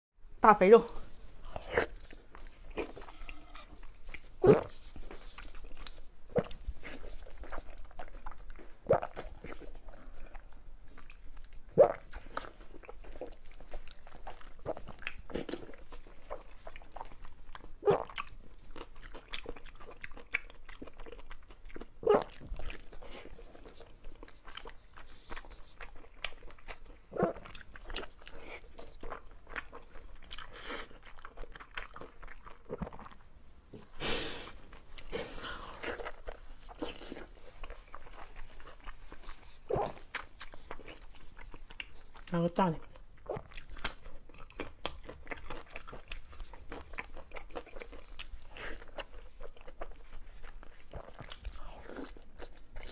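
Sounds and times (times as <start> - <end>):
wet chewing and biting: 1.4 - 33.2, 34.4 - 52.9.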